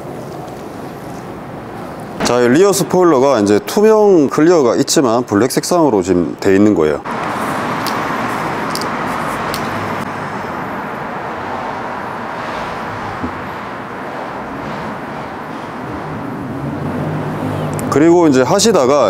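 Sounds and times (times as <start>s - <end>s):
rushing background noise: 0.0s - 6.2s, 6.9s - 19.0s.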